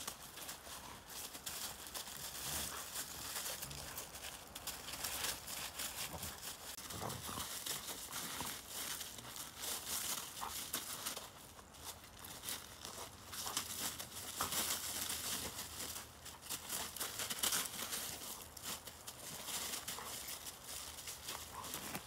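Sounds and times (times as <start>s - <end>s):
paws scrabbling through snow and leaves: 0.0s - 22.0s.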